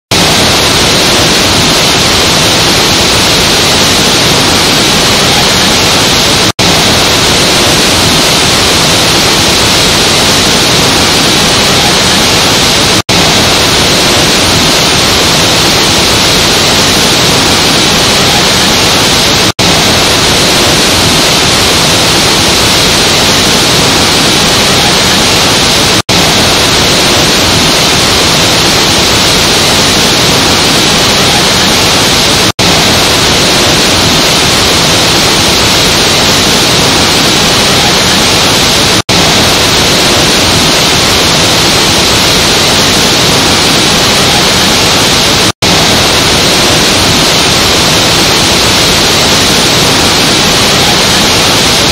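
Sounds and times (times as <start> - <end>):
waterfall rushing: 0.1 - 51.9.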